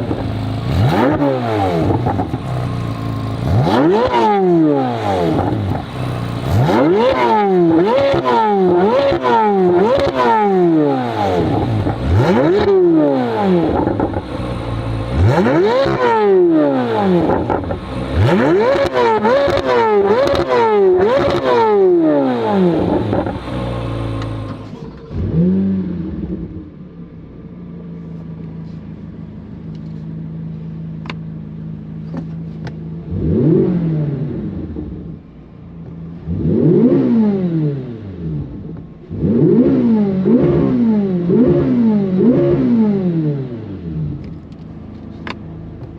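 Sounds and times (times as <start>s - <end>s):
car engine revving and idling: 0.0s - 45.9s.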